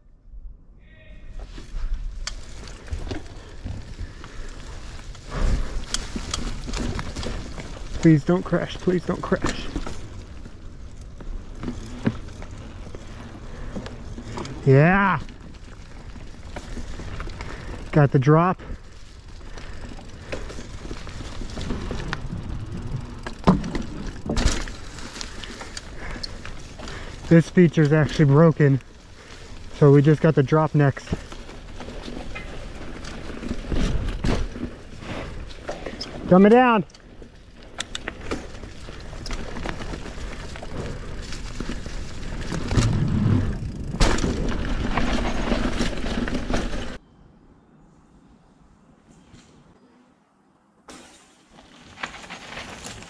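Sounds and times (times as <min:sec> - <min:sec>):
bike tyre rumble on dirt: 0:01.3 - 0:47.0, 0:50.9 - 0:53.0
bike rattling and knocking: 0:02.3 - 0:18.0, 0:18.6 - 0:47.0.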